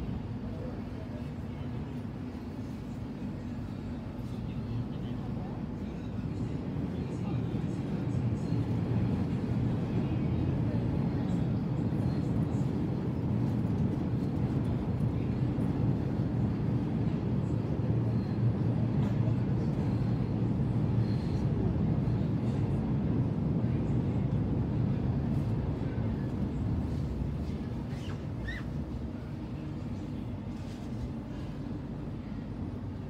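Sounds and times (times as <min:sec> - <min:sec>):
train rumbling inside carriage: 0:00.0 - 0:33.0.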